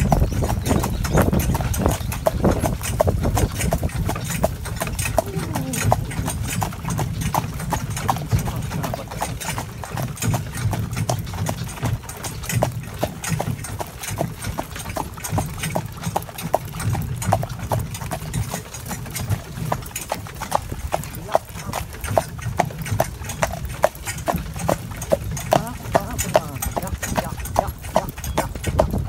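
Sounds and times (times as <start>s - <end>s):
horse hooves clip-clopping: 0.0s - 29.0s.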